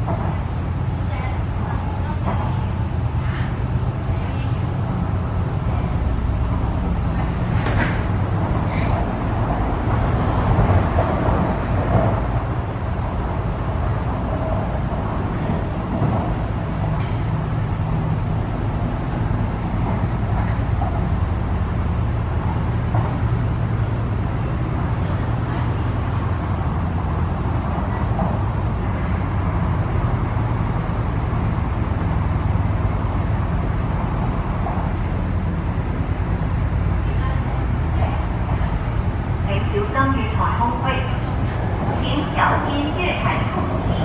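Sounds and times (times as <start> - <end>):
train motor hum: 0.0 - 44.0
train wheels rumbling on track: 0.0 - 44.0.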